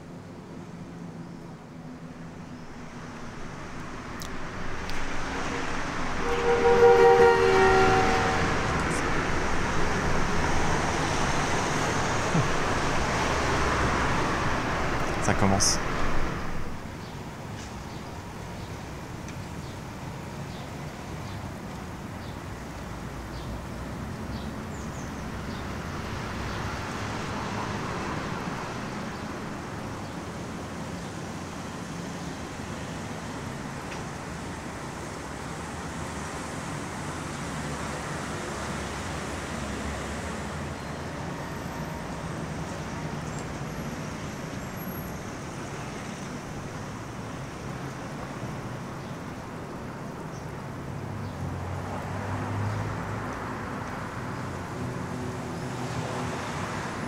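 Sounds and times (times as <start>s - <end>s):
cars passing on street: 0.0s - 57.0s.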